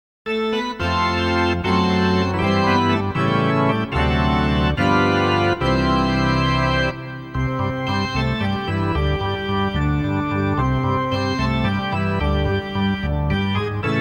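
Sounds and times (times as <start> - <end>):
organ playing held chords: 0.3 - 14.0.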